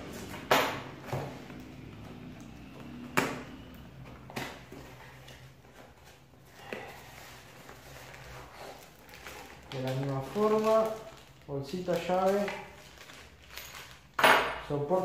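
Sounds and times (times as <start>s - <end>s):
packaging handling noise: 0.0s - 14.2s.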